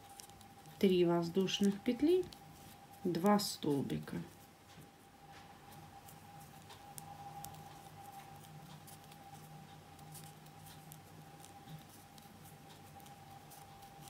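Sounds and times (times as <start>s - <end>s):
crochet hook ticks and scratches: 0.0s - 5.0s, 5.6s - 14.0s
faint steady hum: 0.0s - 14.0s.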